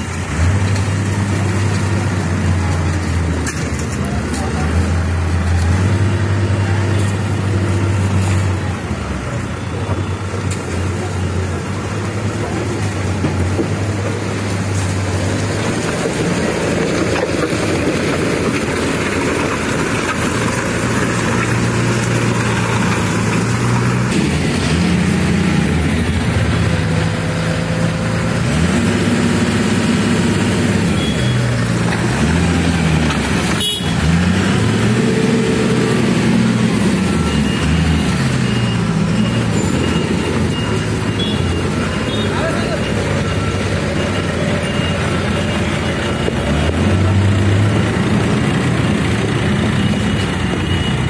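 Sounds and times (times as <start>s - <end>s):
heavy diesel machinery engines: 0.0s - 51.0s.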